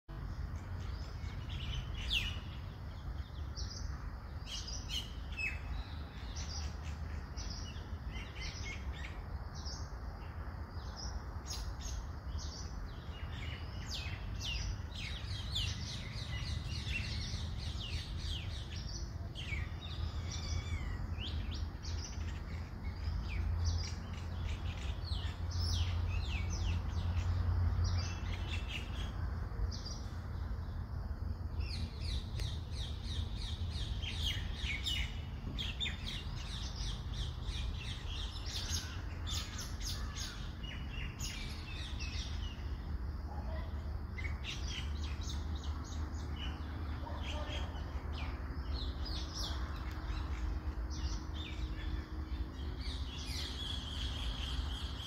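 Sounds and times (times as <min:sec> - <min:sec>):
small birds chirping and twittering: 0:00.1 - 0:55.0.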